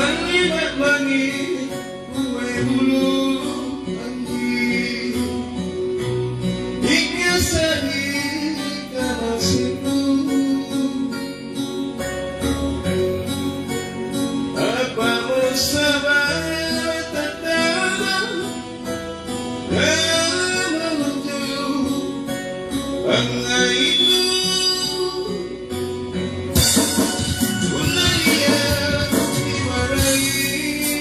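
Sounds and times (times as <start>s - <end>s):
guitar song with singing: 0.0s - 31.0s.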